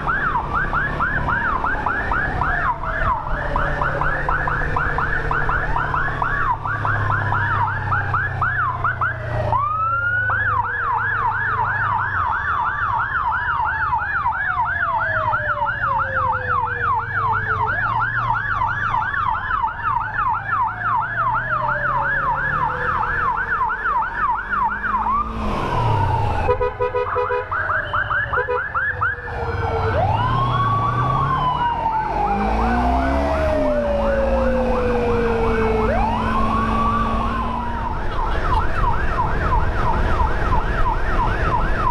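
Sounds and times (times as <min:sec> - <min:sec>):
siren wail: 0:00.0 - 0:41.9
siren yelp: 0:00.0 - 0:41.9.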